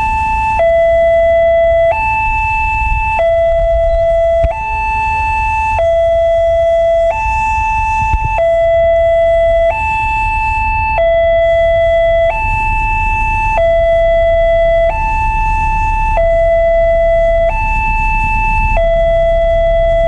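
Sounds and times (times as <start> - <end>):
two-tone warning siren: 0.0 - 20.0.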